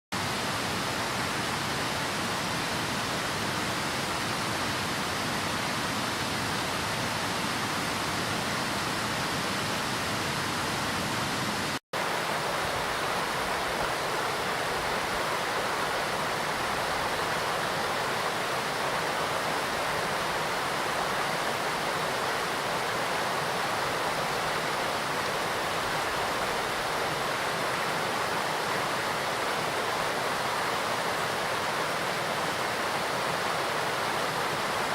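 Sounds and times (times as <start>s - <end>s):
waterfall roaring: 0.2s - 34.9s.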